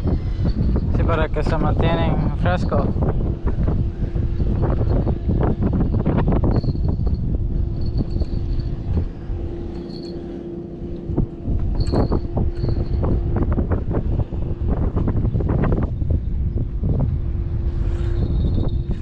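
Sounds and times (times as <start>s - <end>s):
faint steady hum: 0.0s - 19.0s
wind buffeting microphone: 0.0s - 19.0s.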